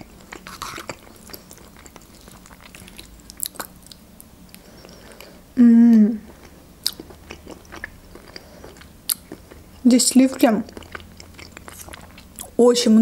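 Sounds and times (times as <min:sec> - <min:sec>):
close-up chewing: 0:00.0 - 0:05.4, 0:06.3 - 0:12.6.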